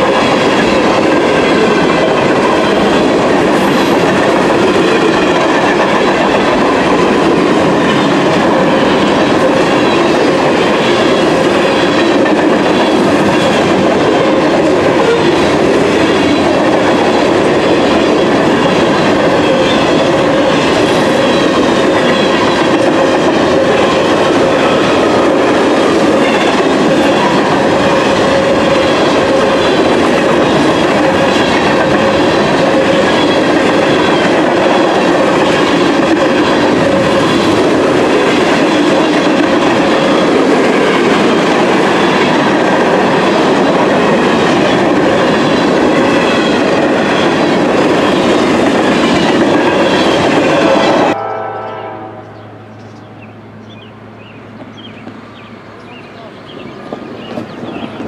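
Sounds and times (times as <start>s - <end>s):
train wheels rumbling on rails: 0.0s - 51.2s, 52.2s - 58.0s.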